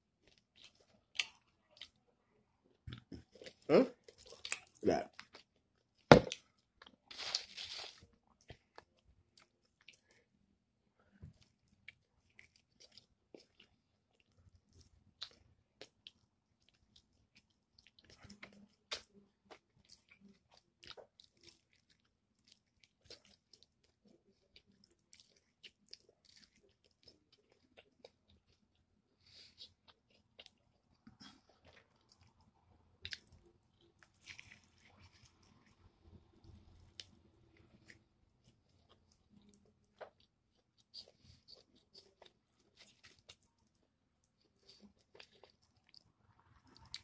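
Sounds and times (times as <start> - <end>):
chewing crispy chicken: 0.1 - 2.1, 2.7 - 10.4, 11.0 - 47.0.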